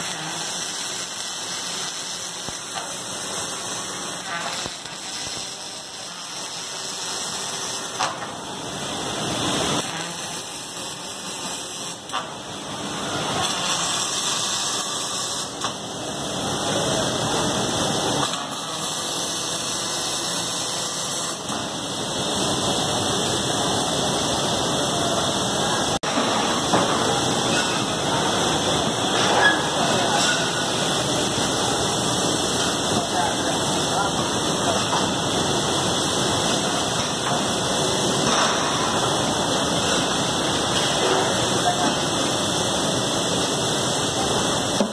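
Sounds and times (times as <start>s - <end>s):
factory machine noise: 0.0s - 44.9s
welding arcs crackling and hissing: 0.0s - 44.9s.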